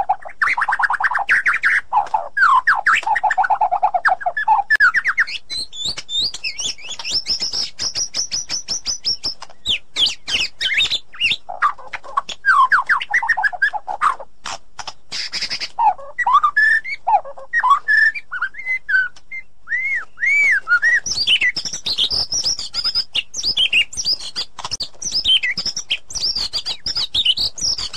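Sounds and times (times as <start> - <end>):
bird singing varied song: 0.0 - 27.9.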